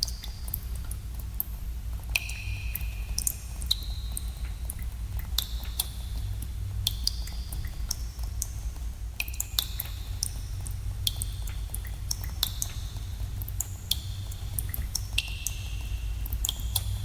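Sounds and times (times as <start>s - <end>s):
water drops plinking in cave: 0.0s - 17.0s.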